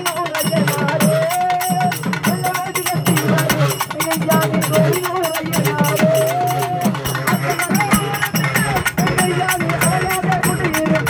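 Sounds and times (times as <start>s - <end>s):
fast driving drum strokes: 0.0s - 11.0s
small hand cymbals clashing: 0.0s - 11.0s
pitch-sliding drum tones: 0.4s - 11.0s.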